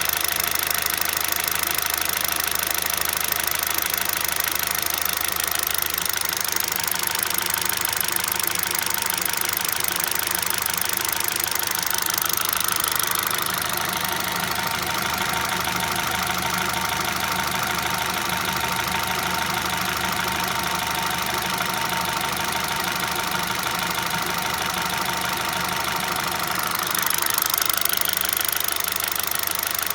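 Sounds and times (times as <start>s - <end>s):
car engine running: 0.0s - 29.9s
rapid engine knock: 0.0s - 29.9s.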